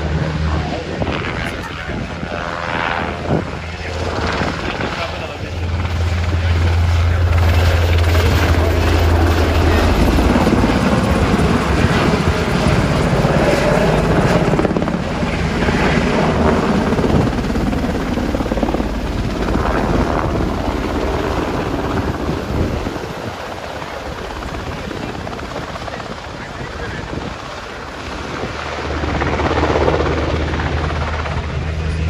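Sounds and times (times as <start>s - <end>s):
helicopter rotor chopping: 0.0s - 32.0s.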